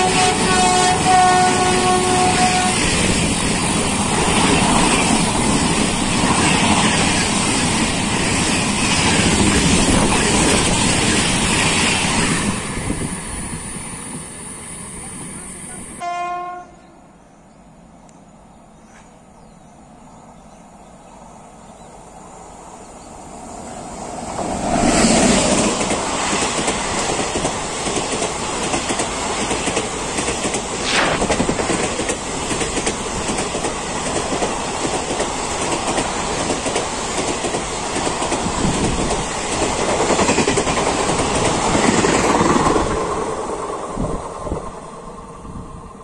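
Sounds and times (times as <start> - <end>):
electric locomotive passing: 0.0 - 19.0, 19.6 - 46.0.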